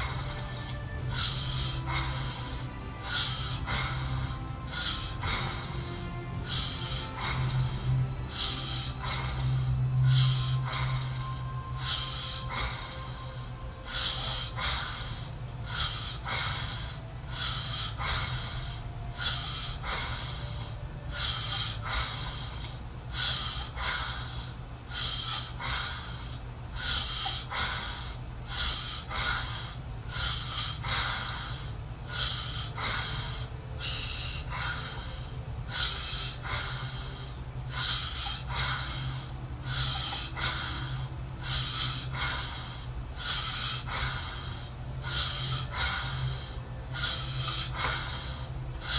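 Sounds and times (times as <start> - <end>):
man snoring: 0.0 - 48.9
steady low hum: 0.0 - 48.9.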